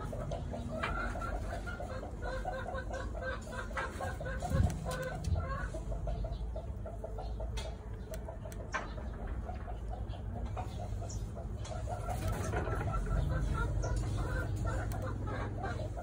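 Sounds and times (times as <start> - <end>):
hen clucking: 0.0 - 16.0.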